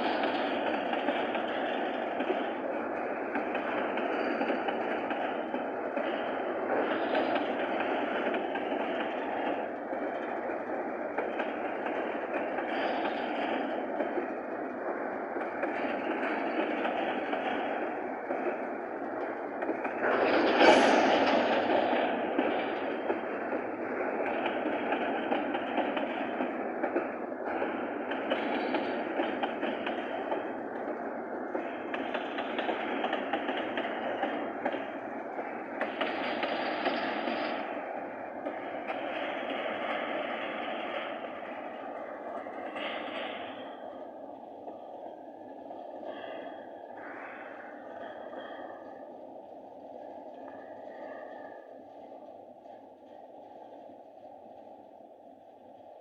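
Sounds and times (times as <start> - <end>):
freight train wheels clattering on rails: 0.0 - 54.9.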